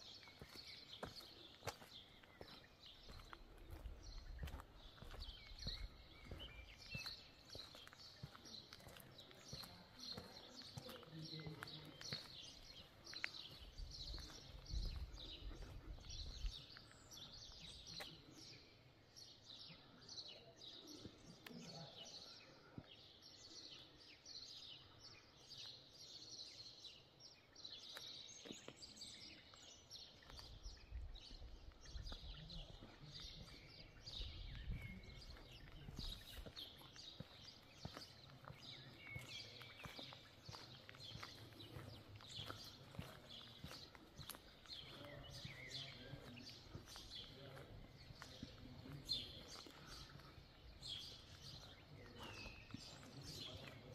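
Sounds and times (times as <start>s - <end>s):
faint outdoor ambience: 0.0s - 53.9s
songbirds chirping: 0.0s - 53.9s.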